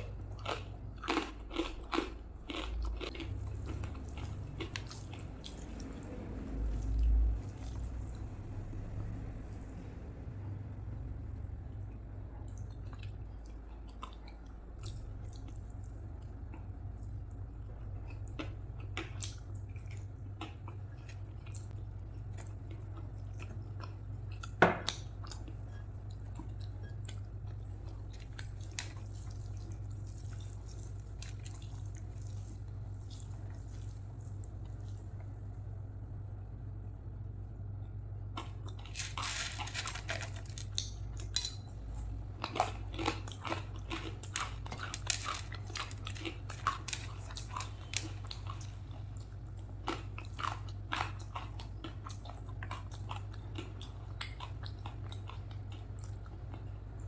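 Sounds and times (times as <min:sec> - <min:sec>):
person chewing and smacking: 0:00.0 - 0:05.9, 0:12.5 - 0:35.3, 0:38.3 - 0:57.0
steady low hum: 0:00.0 - 0:57.0.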